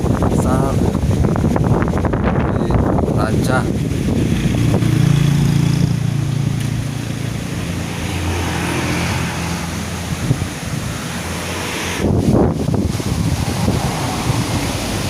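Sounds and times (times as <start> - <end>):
engine hum: 0.0 - 15.0
wind buffeting microphone: 0.0 - 15.0.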